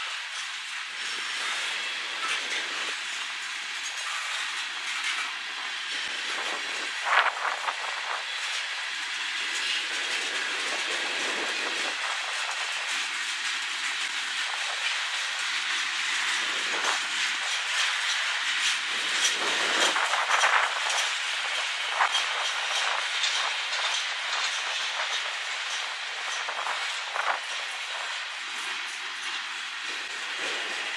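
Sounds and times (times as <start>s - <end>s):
freight train wheels on rails: 0.0s - 30.9s
wheels clacking over rail joints: 0.0s - 30.9s.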